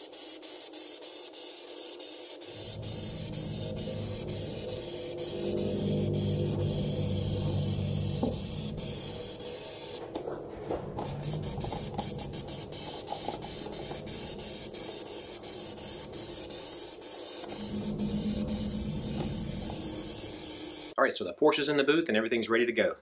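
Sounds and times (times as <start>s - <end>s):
aerosol spray can hissing: 0.0s - 10.0s, 11.0s - 21.0s.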